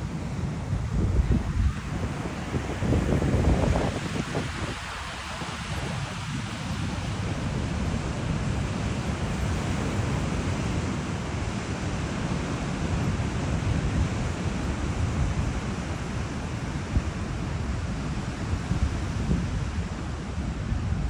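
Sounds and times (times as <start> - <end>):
ocean surf rushing: 0.0 - 21.0
wind buffeting microphone: 0.0 - 21.0.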